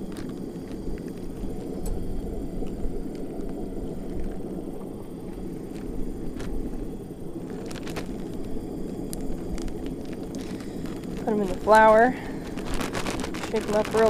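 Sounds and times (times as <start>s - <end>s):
propane burner rushing: 0.0s - 14.0s.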